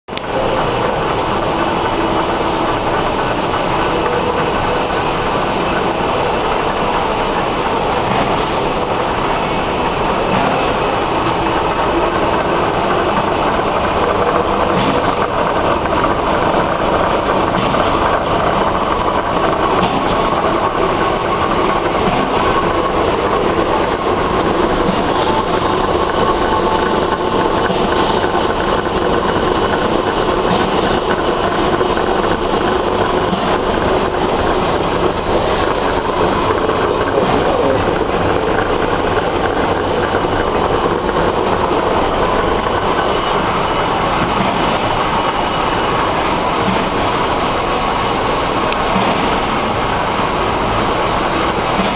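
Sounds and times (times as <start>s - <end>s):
cutting machine clatter: 0.1s - 51.9s.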